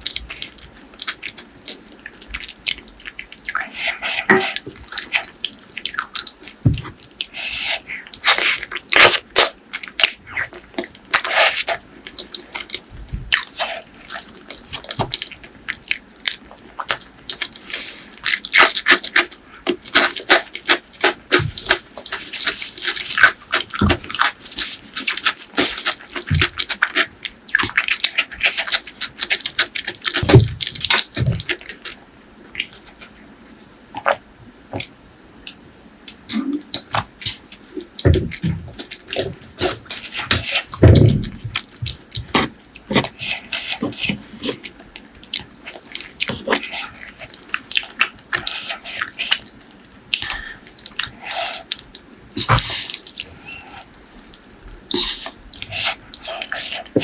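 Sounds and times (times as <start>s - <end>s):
close chewing and biting food: 0.0s - 33.3s, 36.7s - 57.0s.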